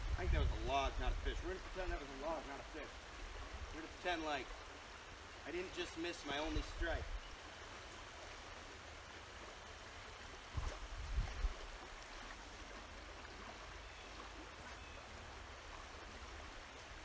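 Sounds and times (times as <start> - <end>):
river current flowing: 0.0 - 17.0.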